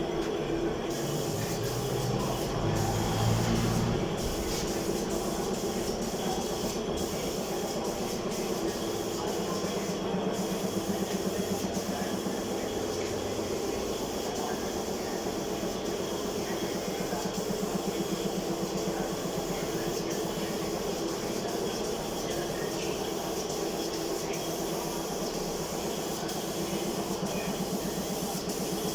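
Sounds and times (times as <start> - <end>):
workshop machinery running: 0.0 - 28.9.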